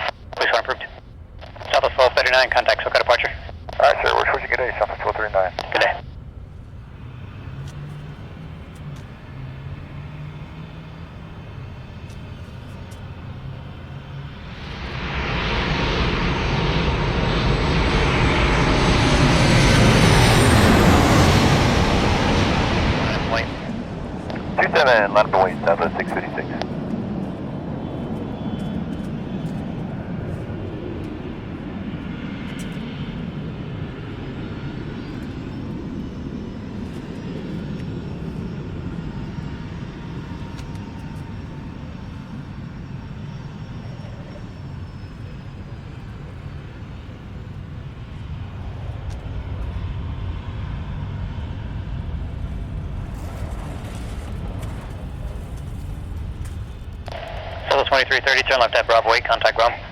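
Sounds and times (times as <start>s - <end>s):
faint high whine: 0.0s - 59.9s
jet airliner engines roaring: 0.0s - 59.9s.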